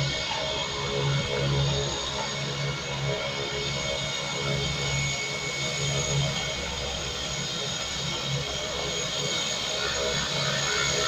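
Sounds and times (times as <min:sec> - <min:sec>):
propeller airplane engine running: 0:00.0 - 0:11.0.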